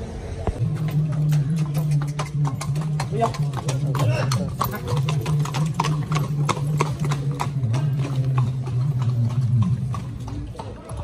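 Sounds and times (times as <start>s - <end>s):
steady low hum: 0.0s - 10.6s
horse hooves on dirt: 0.4s - 11.0s.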